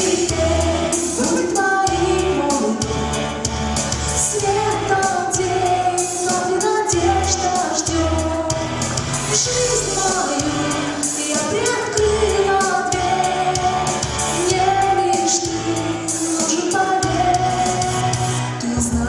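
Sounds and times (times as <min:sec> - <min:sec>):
woman singing pop song: 0:00.0 - 0:03.3, 0:04.0 - 0:19.0.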